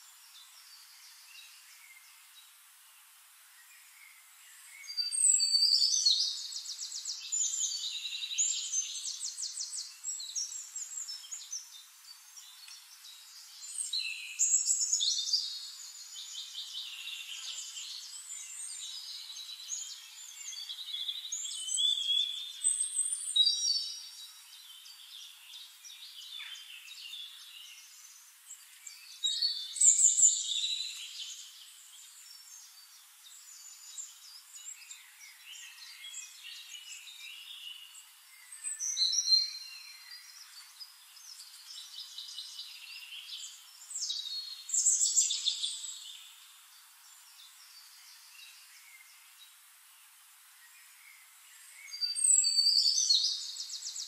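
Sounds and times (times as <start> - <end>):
songbirds trilling and warbling: 0.0 - 54.0.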